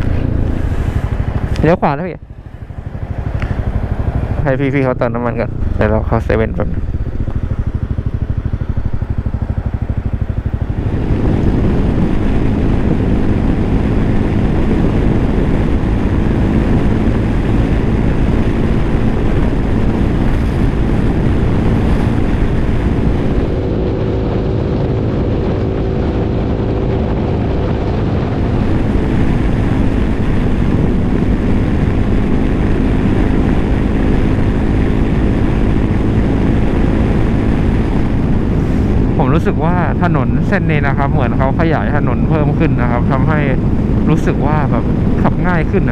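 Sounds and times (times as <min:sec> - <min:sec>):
motorcycle engine hum: 0:00.0 - 0:45.9
wind rush over microphone: 0:00.0 - 0:45.9.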